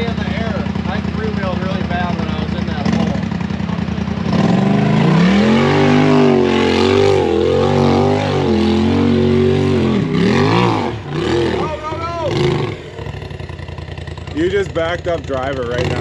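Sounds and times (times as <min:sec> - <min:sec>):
engine revving hard: 0:00.0 - 0:03.4, 0:04.2 - 0:16.0.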